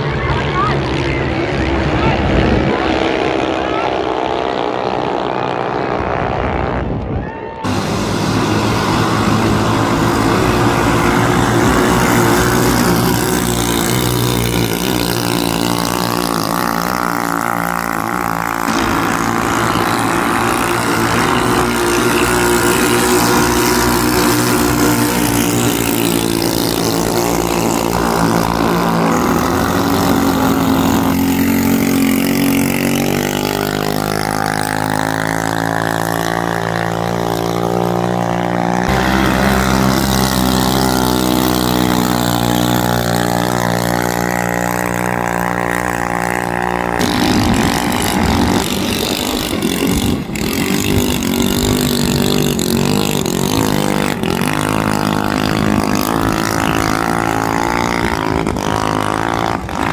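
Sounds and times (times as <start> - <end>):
racing boat engines droning: 0.0 - 59.9.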